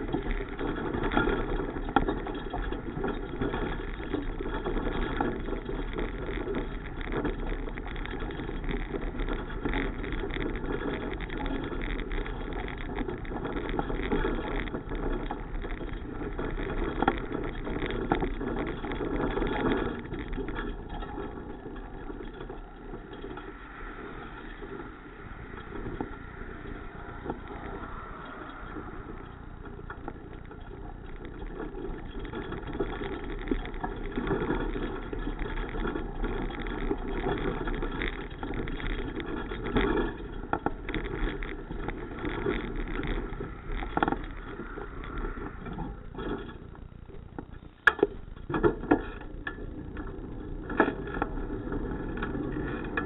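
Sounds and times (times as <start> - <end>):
bicycle road and wind rumble: 0.0 - 53.0.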